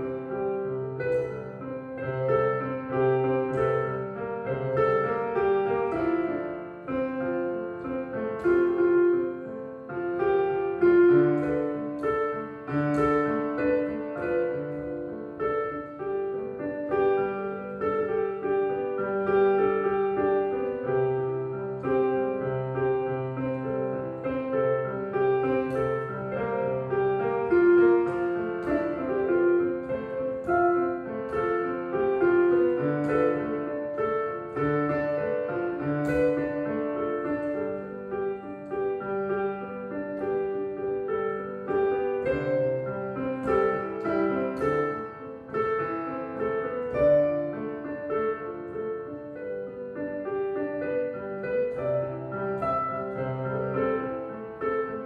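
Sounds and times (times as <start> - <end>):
piano melody over chords: 0.0 - 55.0.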